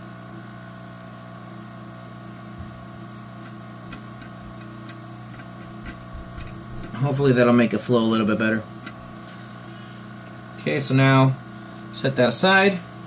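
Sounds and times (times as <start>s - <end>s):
hot air blower hum and hiss: 0.0s - 13.0s.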